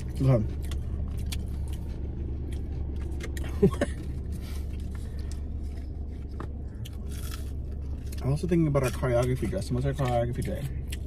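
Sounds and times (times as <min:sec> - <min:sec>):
eating clicks and crunches: 0:00.0 - 0:11.0
low rumble in car cabin: 0:00.0 - 0:11.0.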